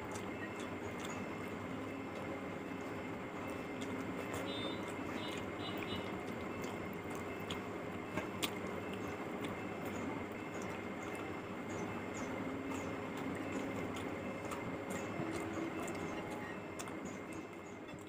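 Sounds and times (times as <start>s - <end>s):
chewing with wet mouth clicks: 0.0s - 18.0s.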